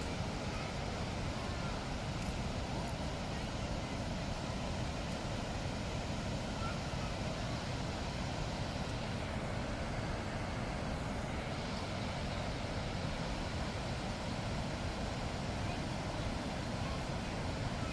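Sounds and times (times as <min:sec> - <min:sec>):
rushing water: 0:00.0 - 0:17.9.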